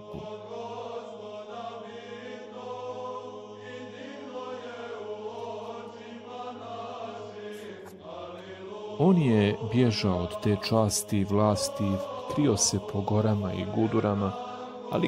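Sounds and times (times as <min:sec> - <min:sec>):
choir chanting long notes: 0:00.0 - 0:15.0.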